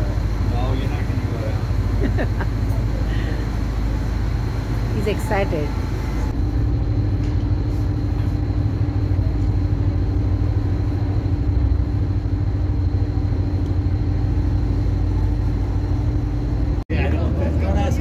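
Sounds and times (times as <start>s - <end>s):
ferry engines rumbling: 0.0s - 18.0s.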